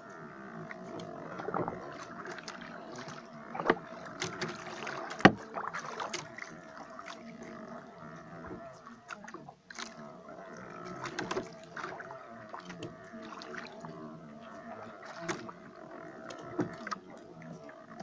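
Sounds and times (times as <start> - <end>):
boat motor hum: 0.0 - 18.0.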